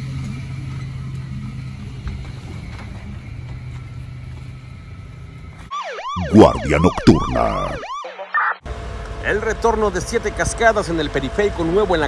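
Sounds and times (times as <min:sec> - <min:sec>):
vehicle engine rumbling: 0:00.0 - 0:06.6, 0:08.6 - 0:12.0
sirens wailing: 0:00.0 - 0:12.0.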